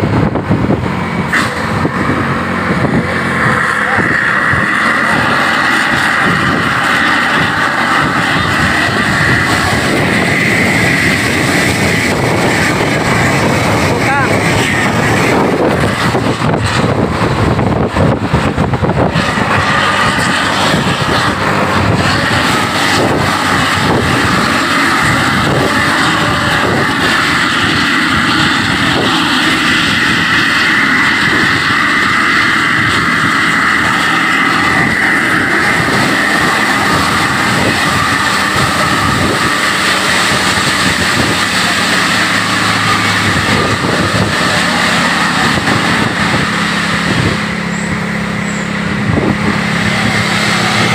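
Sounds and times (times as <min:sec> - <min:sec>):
bus engine drone: 0:00.0 - 0:50.9.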